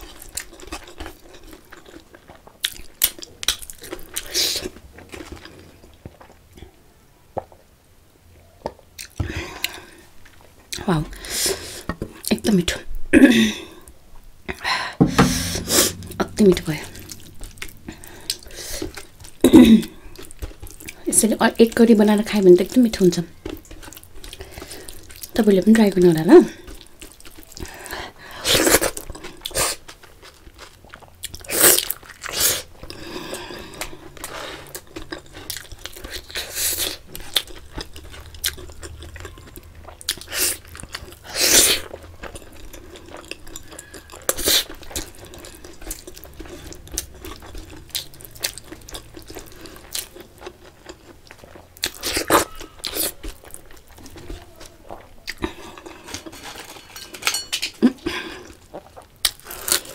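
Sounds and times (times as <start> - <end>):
person chewing food: 0.0 - 6.7, 8.6 - 12.3, 14.5 - 21.1, 22.8 - 25.4, 26.4 - 59.9.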